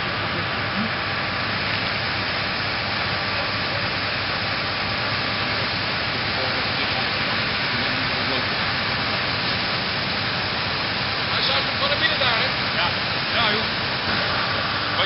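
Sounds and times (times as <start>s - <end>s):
hose water jets rushing: 0.0s - 15.0s.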